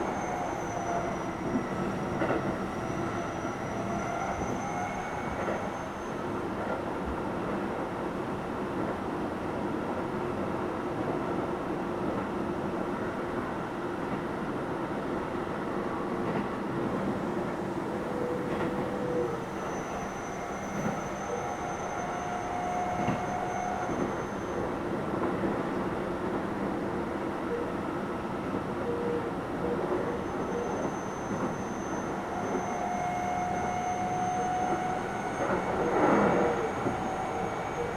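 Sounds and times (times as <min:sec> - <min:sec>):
electric train rumbling: 0:00.0 - 0:37.9.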